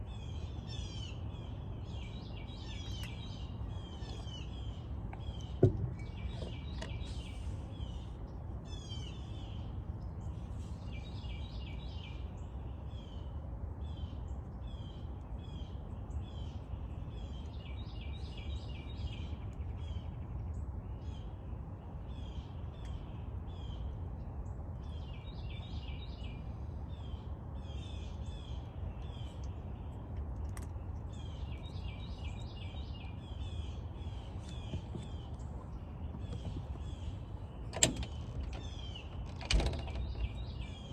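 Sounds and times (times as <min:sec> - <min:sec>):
low background rumble: 0:00.0 - 0:40.9
small birds chirping: 0:00.0 - 0:40.9.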